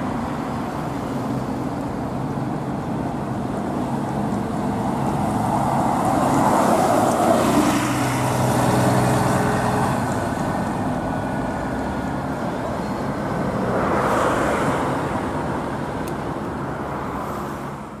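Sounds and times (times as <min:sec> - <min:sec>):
bus engine pulling away: 0:00.0 - 0:16.6
road traffic noise: 0:00.0 - 0:18.0.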